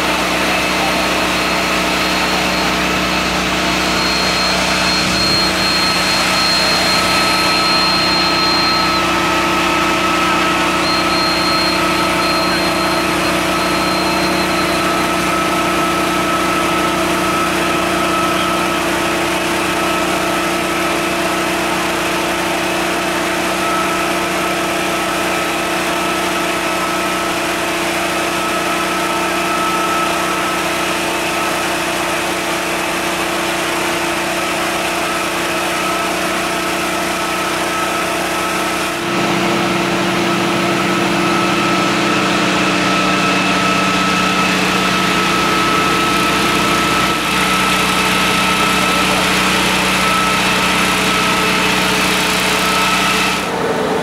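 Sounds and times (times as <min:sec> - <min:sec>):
fire engine idling: 0:00.0 - 0:54.0.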